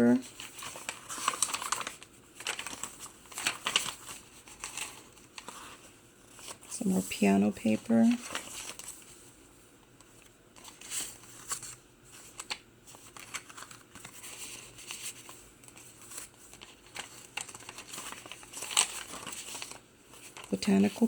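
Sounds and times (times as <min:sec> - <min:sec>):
paper pages rustling: 0:00.1 - 0:09.3, 0:10.0 - 0:21.0.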